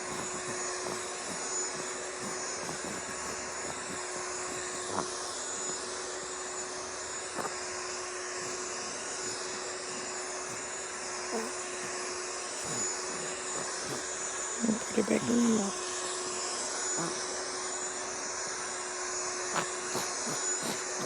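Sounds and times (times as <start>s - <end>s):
vacuum cleaner motor: 0.0s - 21.0s.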